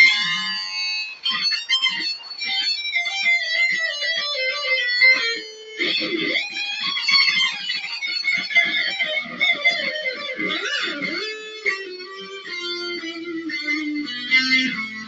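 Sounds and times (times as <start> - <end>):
electric guitar shredding: 0.0 - 15.0.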